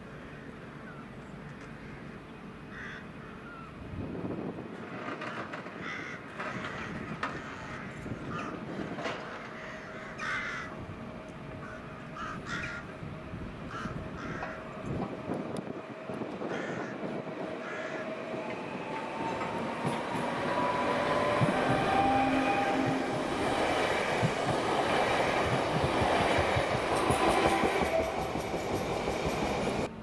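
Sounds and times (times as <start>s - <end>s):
electric train whine: 0.0s - 30.0s.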